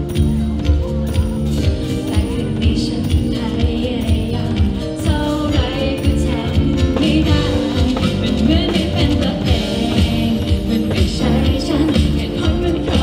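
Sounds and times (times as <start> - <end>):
drum kit steady beat: 0.0 - 13.0
woman singing into microphone: 1.6 - 13.0.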